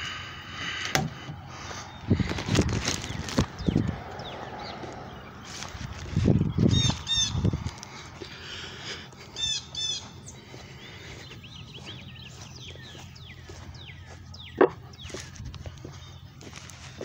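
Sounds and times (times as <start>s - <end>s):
wild birds calling: 0.0s - 17.0s.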